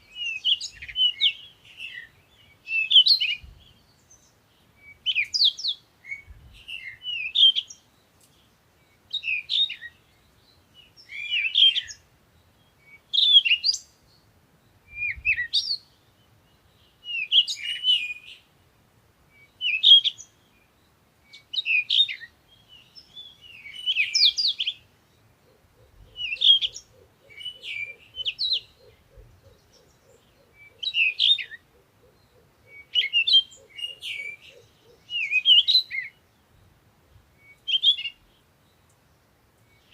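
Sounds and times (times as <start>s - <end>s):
bird chirping: 0.0s - 18.6s, 19.3s - 39.9s.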